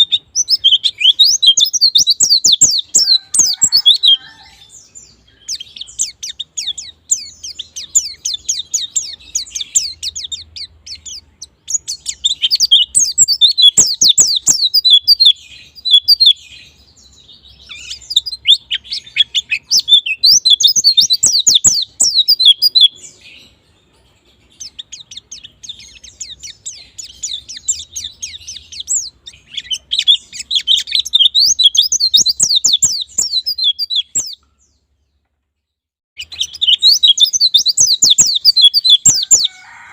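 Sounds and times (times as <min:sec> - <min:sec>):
bird chattering song: 0:00.0 - 0:35.2, 0:36.2 - 0:39.7.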